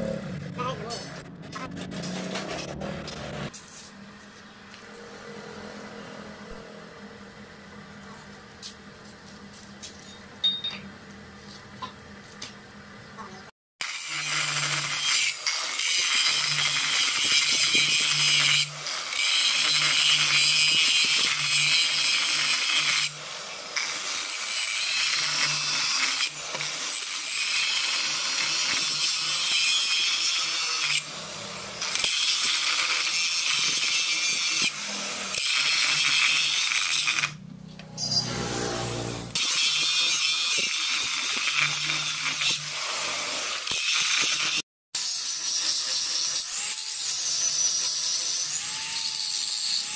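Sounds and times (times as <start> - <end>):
grinder grinding metal: 0.0 - 3.9, 13.8 - 49.9.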